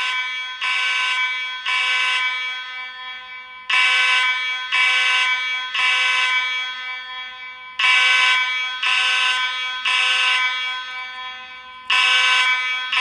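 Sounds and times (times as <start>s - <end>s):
buzzy fire alarm horn blasts: 0.0s - 13.0s.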